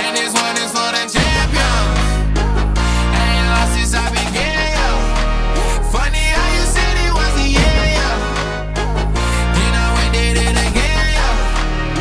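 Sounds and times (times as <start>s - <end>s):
song with deep bass and vocals: 0.0s - 12.0s.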